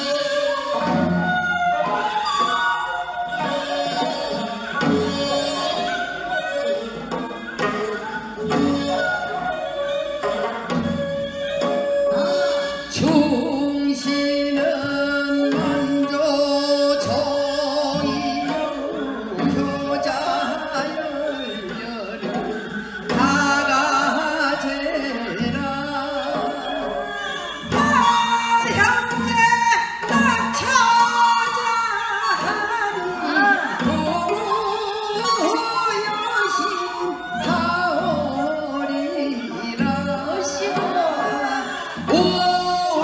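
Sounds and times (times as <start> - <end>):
folk song singing: 0.0 - 43.0
light percussion: 0.0 - 43.0.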